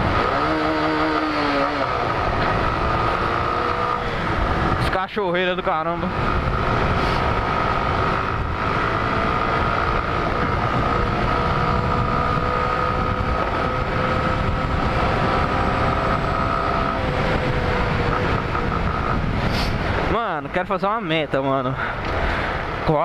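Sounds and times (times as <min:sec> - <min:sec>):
motorcycle engine running: 0:00.0 - 0:20.2
wind rushing over microphone: 0:00.0 - 0:22.9
steady whine: 0:00.0 - 0:23.0.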